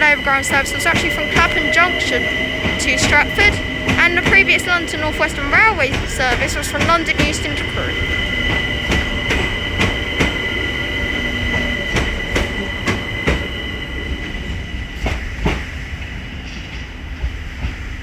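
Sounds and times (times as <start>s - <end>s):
train rolling on rails: 0.0s - 18.0s.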